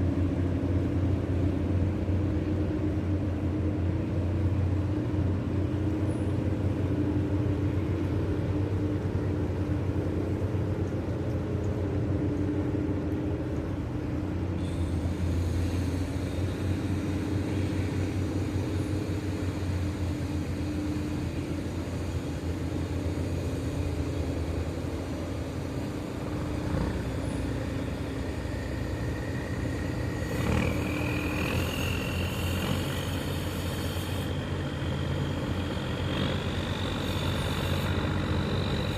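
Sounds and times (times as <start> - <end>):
boat engine humming: 0.0 - 38.9.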